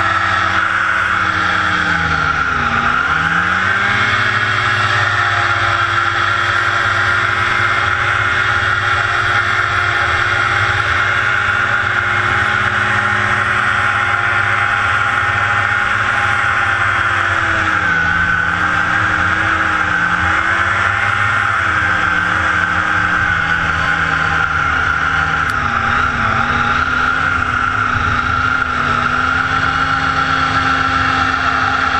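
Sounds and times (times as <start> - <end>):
hovercraft engine running: 0.0 - 31.9
rushing fan noise: 0.0 - 31.9.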